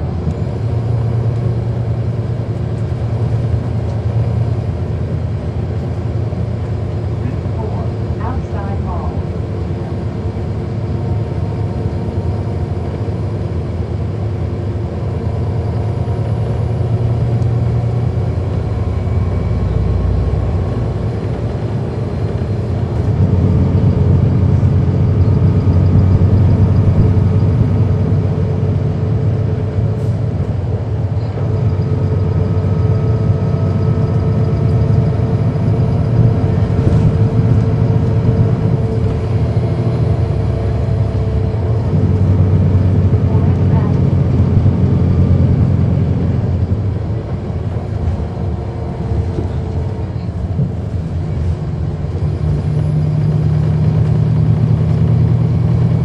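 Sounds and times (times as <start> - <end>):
diesel bus engine drone: 0.0 - 56.0
road noise: 0.0 - 56.0.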